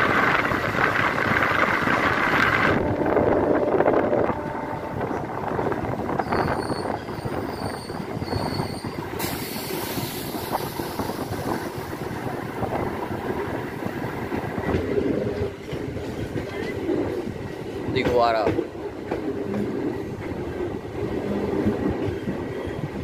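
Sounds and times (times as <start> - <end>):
train wheels rumbling and rattling: 0.0 - 23.0.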